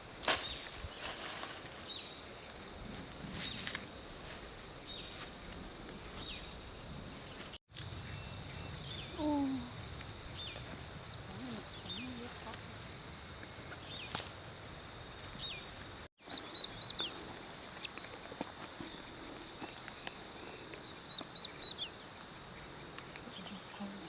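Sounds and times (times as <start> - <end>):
insect drone: 0.0 - 24.0.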